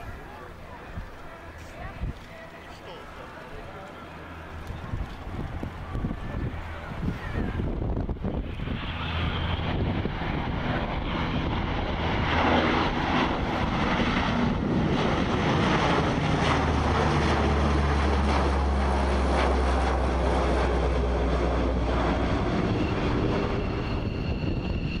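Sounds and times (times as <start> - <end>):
turboprop aircraft droning overhead: 0.0 - 25.0.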